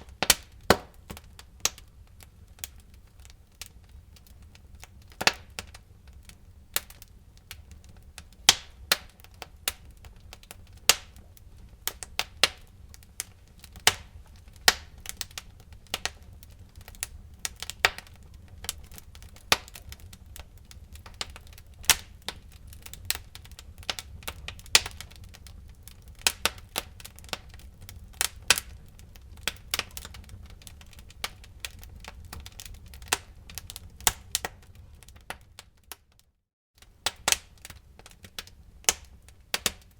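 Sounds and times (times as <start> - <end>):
low rumble of burning fire: 0.0 - 39.9
wood fire crackling and popping: 0.0 - 39.9.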